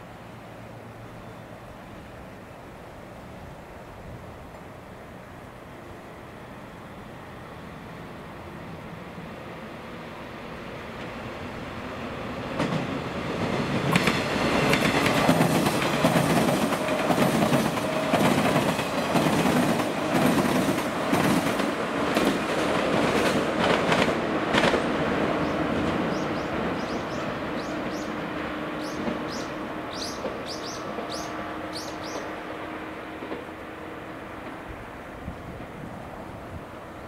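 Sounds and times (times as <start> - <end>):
electric train passing: 0.0 - 37.0.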